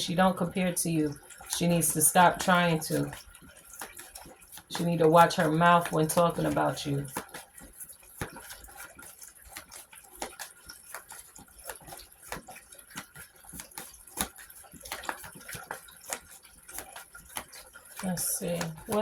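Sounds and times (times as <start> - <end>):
light clicks and taps: 0.0 - 19.0.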